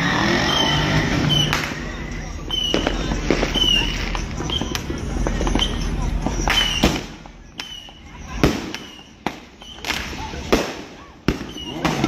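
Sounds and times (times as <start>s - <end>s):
crowd voices: 0.0s - 12.0s
firecrackers crackling: 0.0s - 12.0s
firework bangs: 0.0s - 12.0s.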